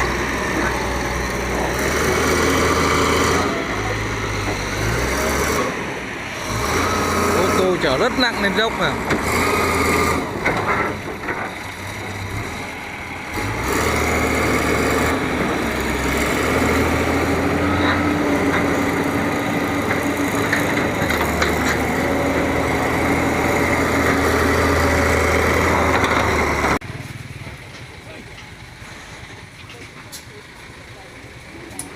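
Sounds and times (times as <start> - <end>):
truck diesel engine under load: 0.0 - 31.9.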